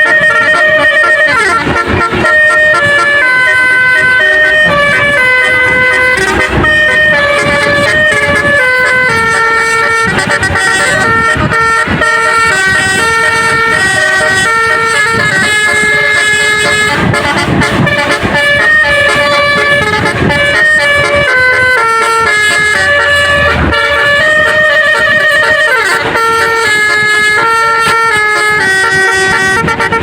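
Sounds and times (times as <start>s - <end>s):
bus horn playing a melody: 0.0s - 30.0s
low rumble of bus: 0.0s - 30.0s.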